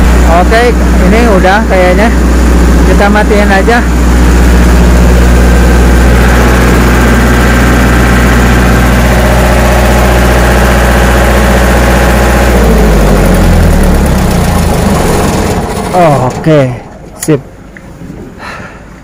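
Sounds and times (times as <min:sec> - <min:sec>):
diesel engine running down: 0:00.0 - 0:19.0.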